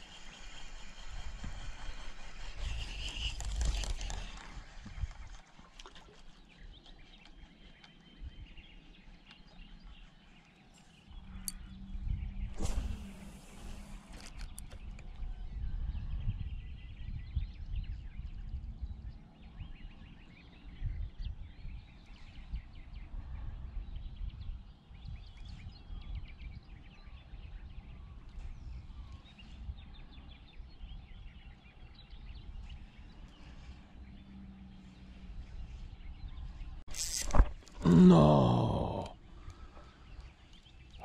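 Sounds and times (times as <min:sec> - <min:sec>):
small birds chirping: 0:00.0 - 0:05.4, 0:06.2 - 0:41.0.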